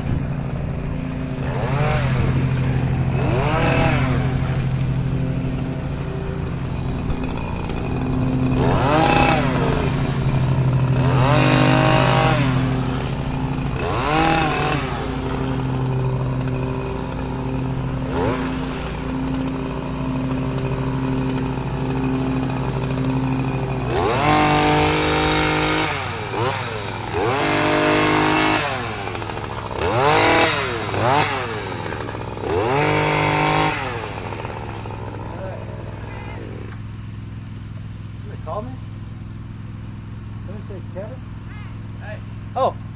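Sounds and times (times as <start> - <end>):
hedge trimmer engine revving: 0.0 - 42.9.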